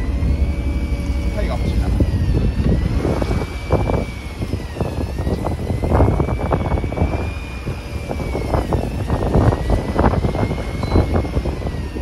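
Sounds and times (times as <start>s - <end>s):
low engine rumble: 0.0s - 12.0s
thin high whine: 0.0s - 12.0s.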